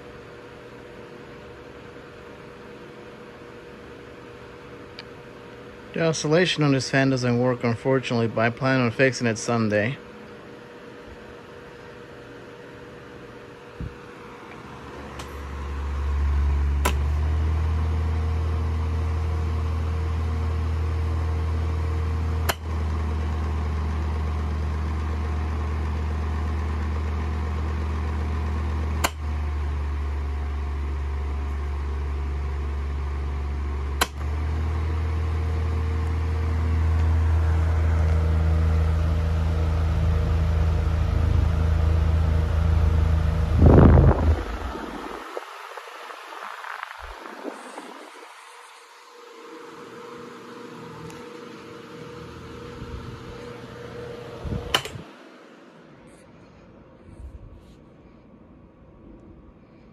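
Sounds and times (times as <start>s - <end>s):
table fan humming: 0.0s - 58.0s.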